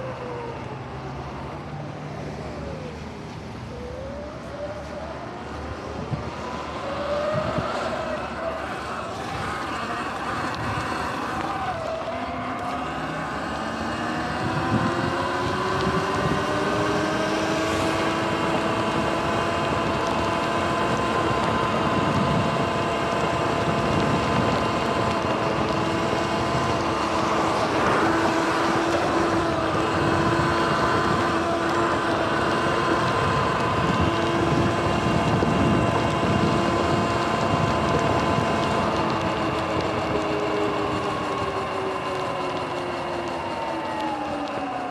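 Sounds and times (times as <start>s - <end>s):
wind on microphone: 4.2s - 42.7s
electric motor whining: 4.8s - 44.9s.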